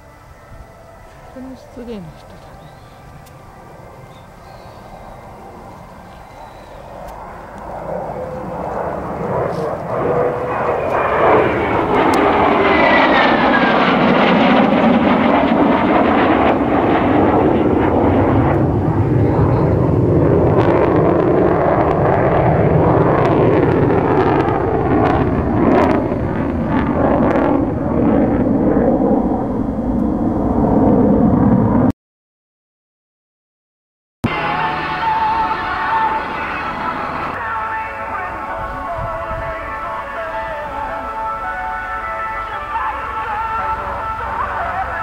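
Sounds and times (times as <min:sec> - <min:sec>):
jet engine rumble: 0:00.0 - 0:31.9, 0:34.2 - 0:45.0.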